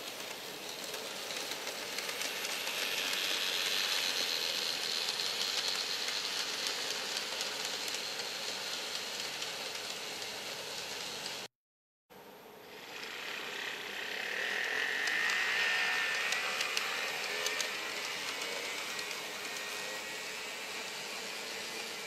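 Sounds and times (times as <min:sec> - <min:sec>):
small electric motor whine: 0:00.0 - 0:10.3, 0:12.4 - 0:22.0.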